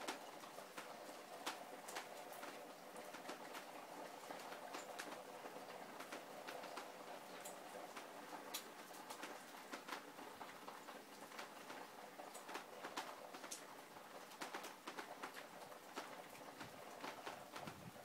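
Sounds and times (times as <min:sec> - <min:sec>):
raindrops tapping hard surfaces: 0:00.0 - 0:18.0.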